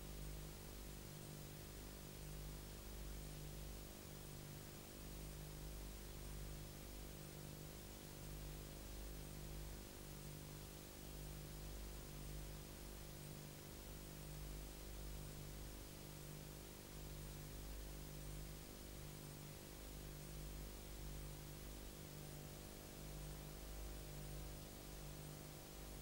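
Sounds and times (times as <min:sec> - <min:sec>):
low hum and hiss: 0:00.0 - 0:26.0.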